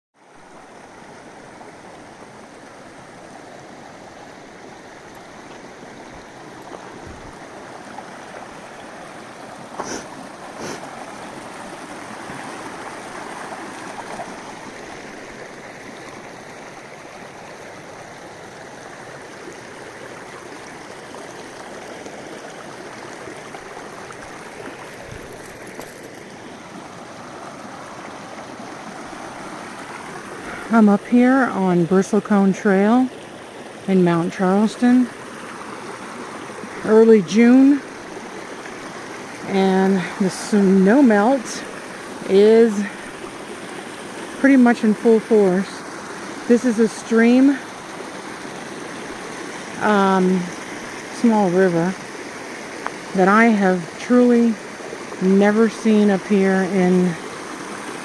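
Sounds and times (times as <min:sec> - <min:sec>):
stream rushing: 0:00.2 - 0:58.0.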